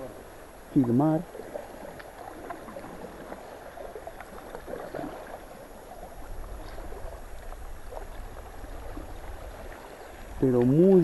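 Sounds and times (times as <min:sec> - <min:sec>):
paddles splashing: 0:00.0 - 0:11.0
river water gurgling against raft: 0:00.0 - 0:11.0.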